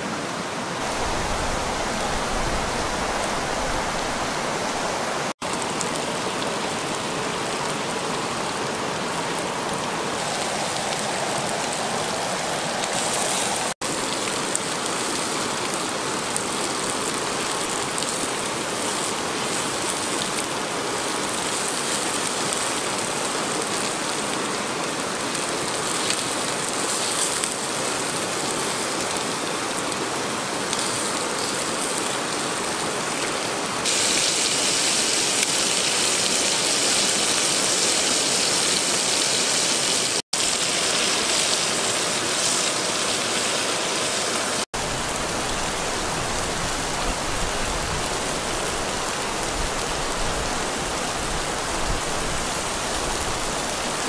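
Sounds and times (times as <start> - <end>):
river flowing: 0.0 - 54.0.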